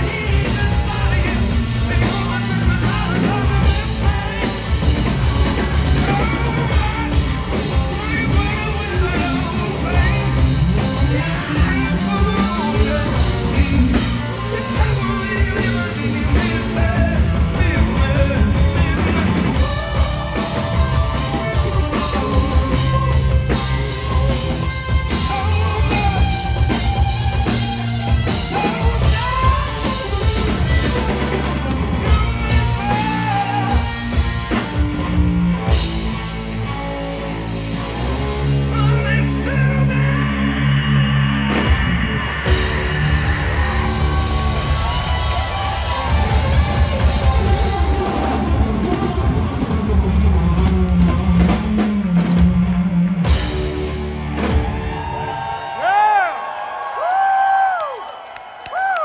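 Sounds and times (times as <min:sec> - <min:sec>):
lead singer: 0:00.0 - 0:36.8, 0:38.2 - 0:56.4
blues-rock band playing live: 0:00.0 - 0:56.5
pounding drum kit: 0:00.0 - 0:59.0.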